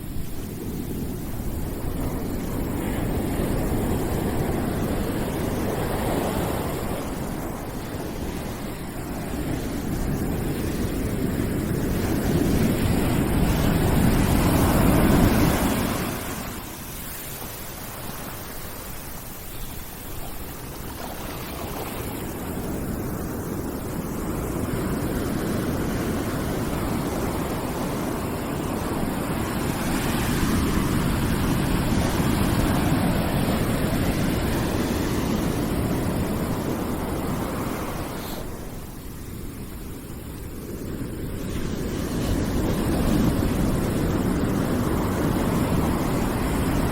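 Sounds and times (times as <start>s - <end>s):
ocean surf rushing: 0.0s - 46.9s.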